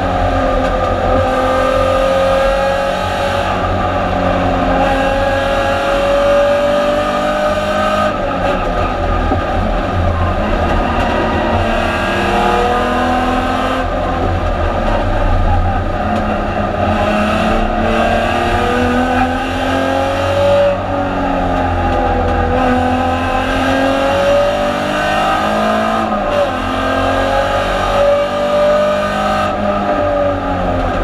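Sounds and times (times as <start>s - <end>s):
racing car engine revving: 0.0s - 31.0s
road and wind noise: 0.0s - 31.0s.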